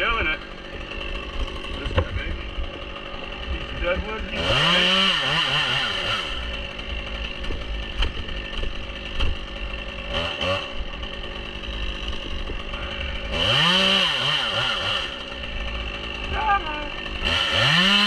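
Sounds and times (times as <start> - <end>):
chainsaw idling and revving: 0.0 - 18.0.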